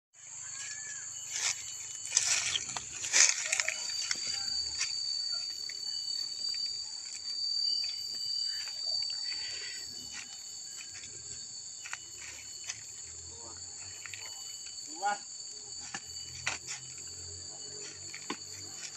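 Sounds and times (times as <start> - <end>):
insects droning: 0.2 - 18.9.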